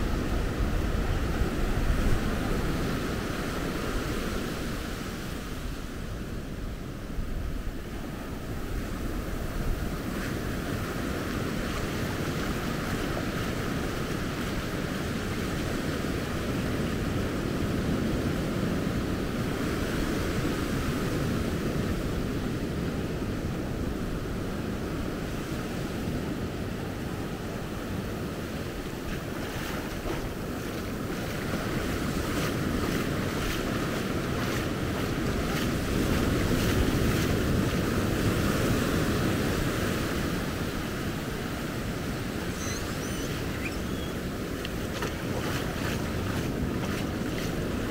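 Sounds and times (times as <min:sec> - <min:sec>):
ocean surf breaking on shore: 0:00.0 - 0:47.9
wind buffeting microphone: 0:07.4 - 0:47.9.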